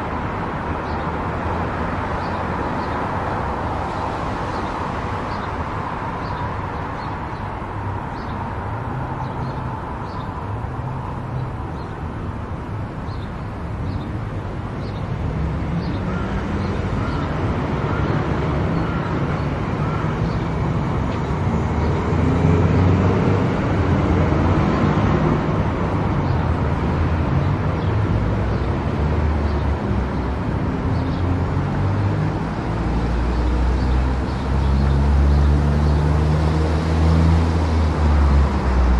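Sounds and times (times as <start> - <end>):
car road noise: 0.0 - 38.9.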